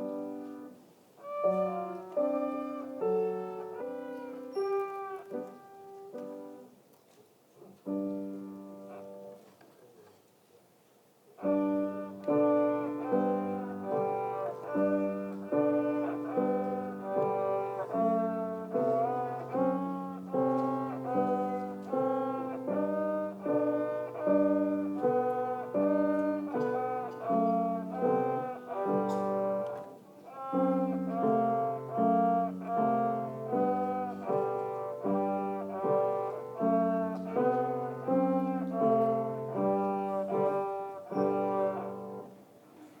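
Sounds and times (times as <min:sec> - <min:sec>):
instrumental children's song melody: 0:00.0 - 0:06.8, 0:11.4 - 0:42.5.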